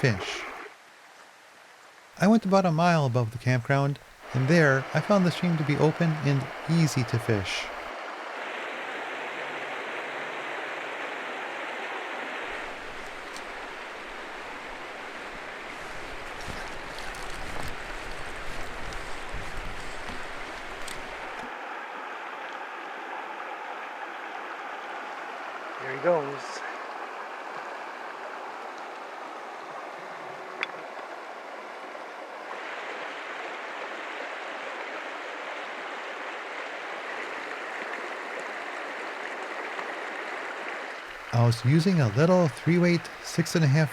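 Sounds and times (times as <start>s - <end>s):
stream running over rocks: 0.0s - 43.9s.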